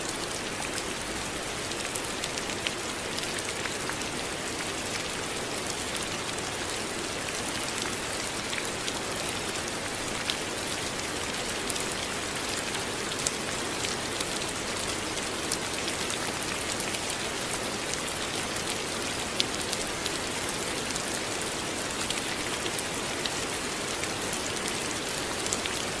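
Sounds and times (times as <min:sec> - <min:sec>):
steady rain hissing: 0:00.0 - 0:26.0.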